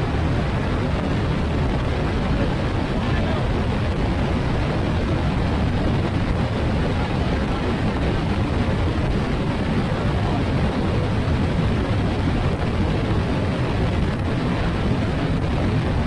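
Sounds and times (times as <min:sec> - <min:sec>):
motorcycle wind and road noise: 0:00.0 - 0:16.0.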